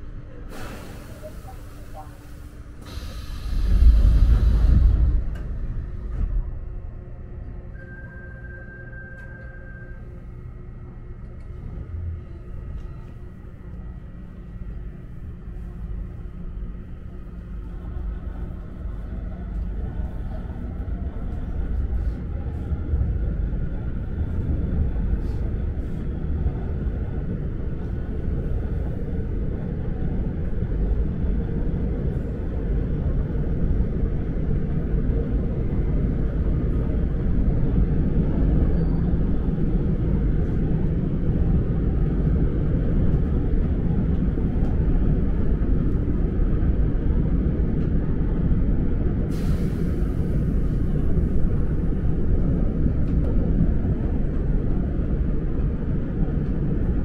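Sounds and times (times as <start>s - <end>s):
subway train rumble: 0.0s - 57.0s.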